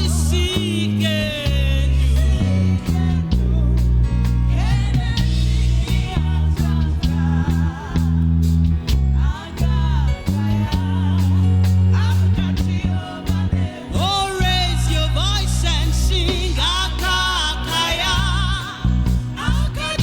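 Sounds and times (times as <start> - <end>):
person singing: 0.0 - 8.3, 9.2 - 20.0
bass line: 0.0 - 20.0
guitar: 0.0 - 20.0.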